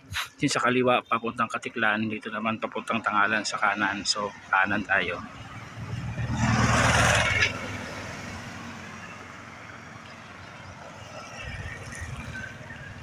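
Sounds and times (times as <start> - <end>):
low road background: 0.0 - 13.0
vehicle engine rumble: 0.0 - 13.0.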